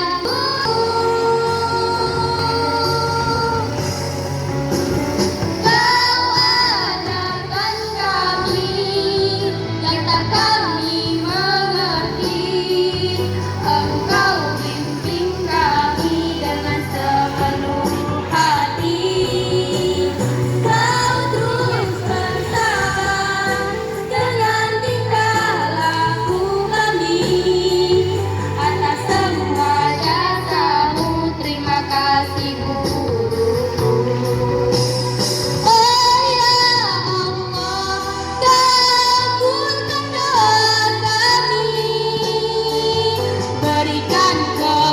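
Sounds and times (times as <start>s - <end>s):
girls' choir singing: 0.0s - 4.0s, 5.1s - 44.4s
low musical accompaniment: 0.0s - 44.9s.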